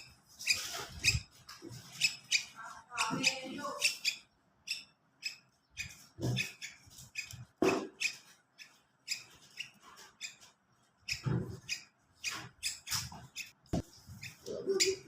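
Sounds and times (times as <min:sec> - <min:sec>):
bird chick chirping: 0:00.0 - 0:15.0.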